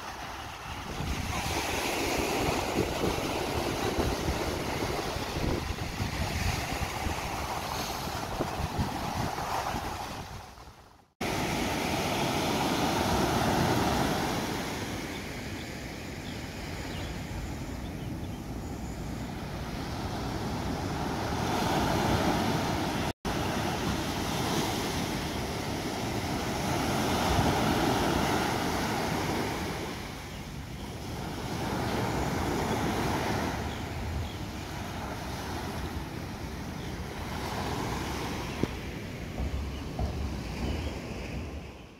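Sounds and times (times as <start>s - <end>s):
waves breaking on beach: 0.0s - 17.6s, 18.4s - 41.9s
wind rumbling on microphone: 0.0s - 41.9s.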